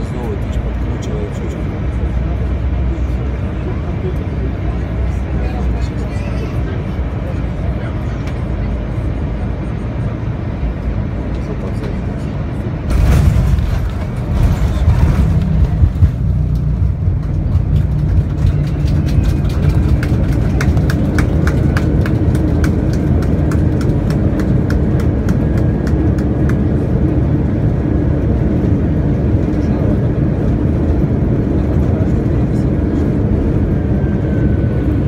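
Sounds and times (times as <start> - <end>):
aircraft engines and wheels rumbling: 0.0 - 35.0.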